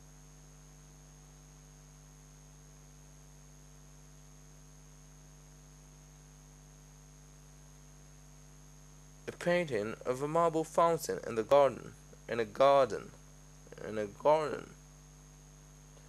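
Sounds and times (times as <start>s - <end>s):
faint electrical hum: 0.0s - 16.0s
thin high whine: 0.0s - 16.0s.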